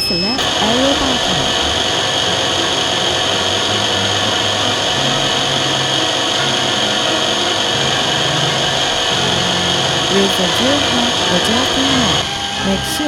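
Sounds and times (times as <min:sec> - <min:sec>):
spindle motor high whine: 0:00.0 - 0:13.0.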